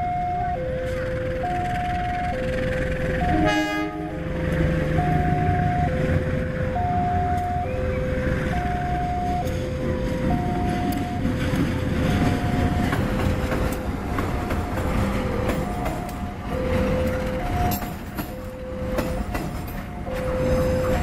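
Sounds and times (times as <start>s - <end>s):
two-tone level-crossing alarm: 0.0s - 13.3s, 14.5s - 21.0s
train rumbling past: 0.0s - 21.0s.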